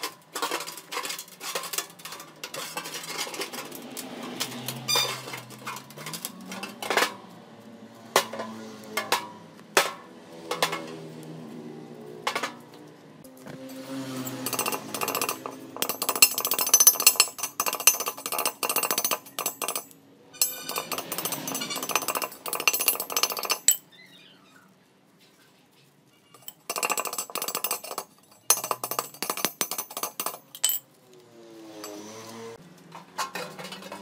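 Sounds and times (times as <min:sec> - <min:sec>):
steel mesh rattling and scraping: 0:00.0 - 0:23.9, 0:26.3 - 0:31.0, 0:31.6 - 0:34.0.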